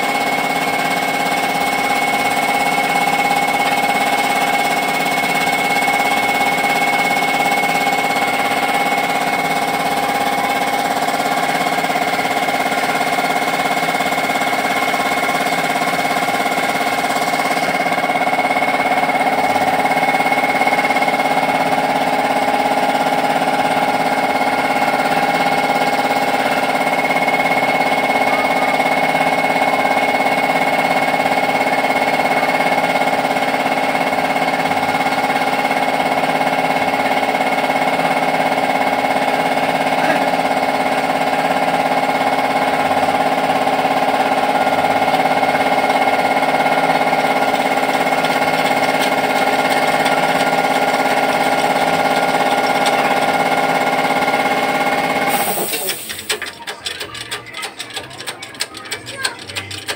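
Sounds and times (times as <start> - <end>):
motor running with high whine: 0.0 - 59.9.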